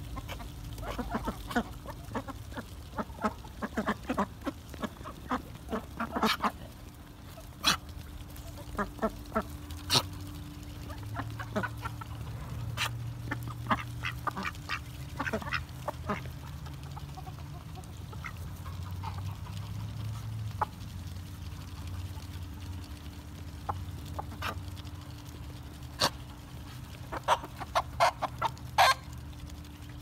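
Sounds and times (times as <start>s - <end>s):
bills pecking at dirt: 0.0s - 30.0s
ducks quacking: 0.0s - 30.0s.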